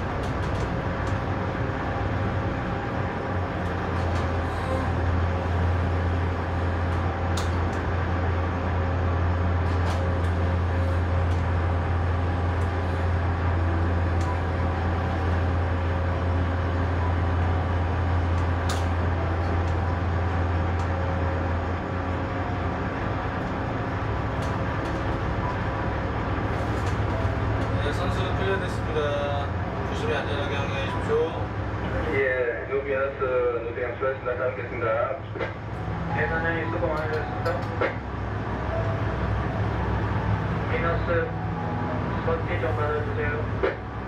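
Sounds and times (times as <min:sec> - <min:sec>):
diesel engines droning: 0:00.0 - 0:44.0.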